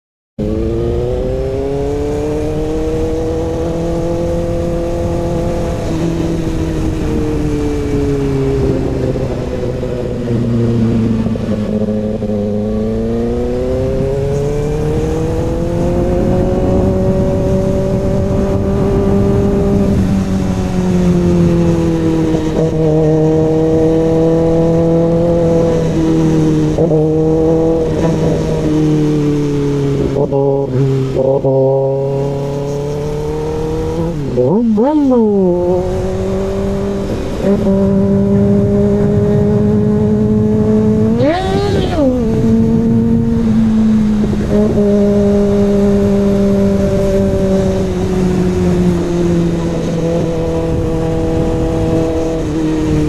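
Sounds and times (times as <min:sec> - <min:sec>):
motorcycle engine running: 0:00.4 - 0:53.0.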